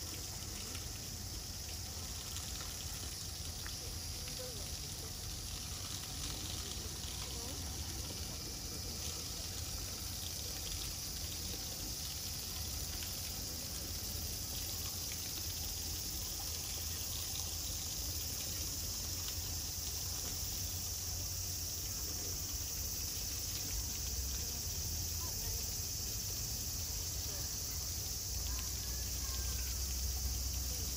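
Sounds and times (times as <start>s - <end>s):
water jetting from a hose: 0.0s - 30.9s.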